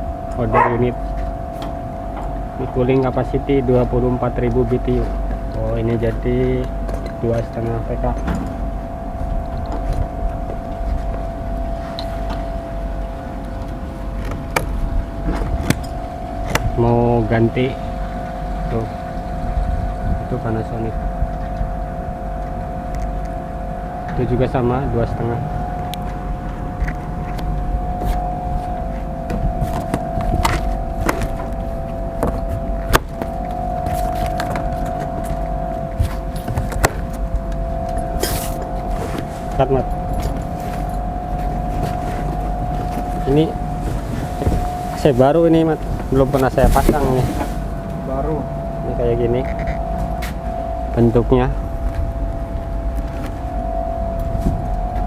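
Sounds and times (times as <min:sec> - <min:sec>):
low machine hum: 0:00.0 - 0:55.0
low rumble: 0:00.0 - 0:55.0.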